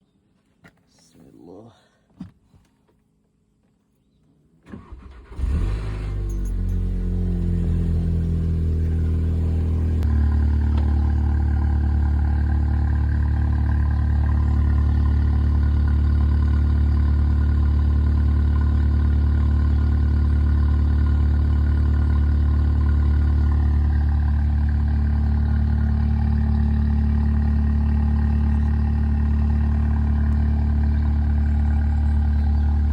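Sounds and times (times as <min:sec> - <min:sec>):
car engine idling: 0:04.8 - 0:32.9.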